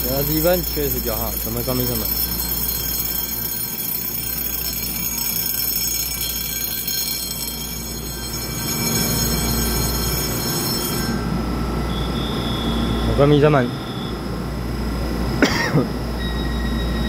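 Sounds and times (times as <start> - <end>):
electric train pulling out: 0.0 - 17.0.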